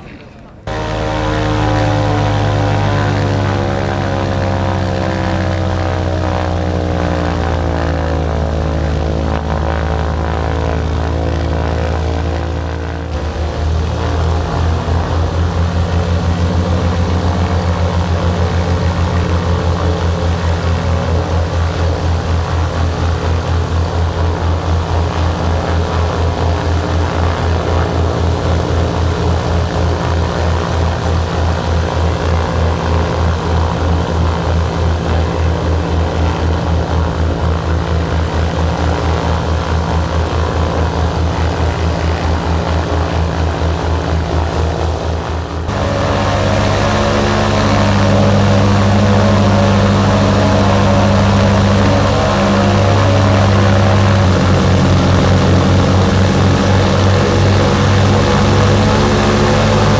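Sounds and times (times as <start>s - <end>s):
piston aircraft engines droning: 0.0s - 59.9s.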